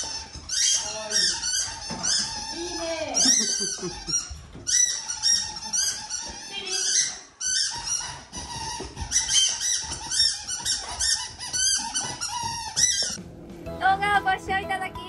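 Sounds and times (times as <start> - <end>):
squeaky dog toy squeaking: 0.0 - 13.2.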